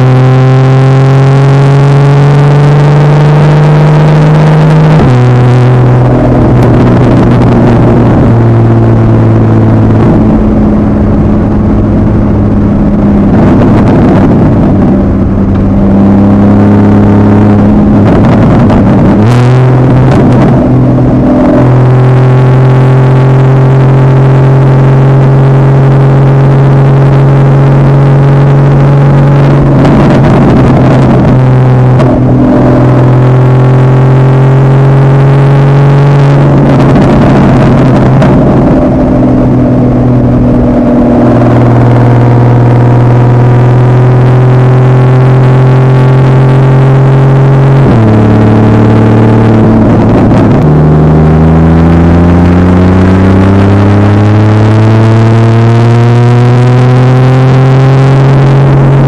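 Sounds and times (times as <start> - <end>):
car engine cruising: 0.0 - 59.0.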